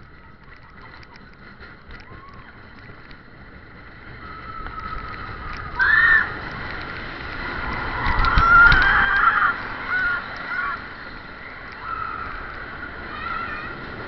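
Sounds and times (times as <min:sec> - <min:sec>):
track clacks: 0:00.0 - 0:14.0.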